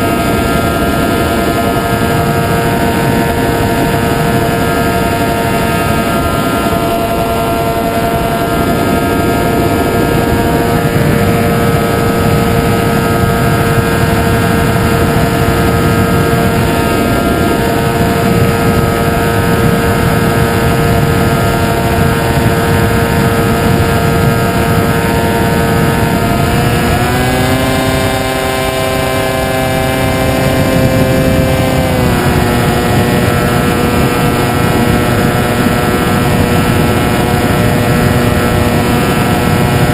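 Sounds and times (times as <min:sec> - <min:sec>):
model airplane motor whine: 0:00.0 - 0:39.9.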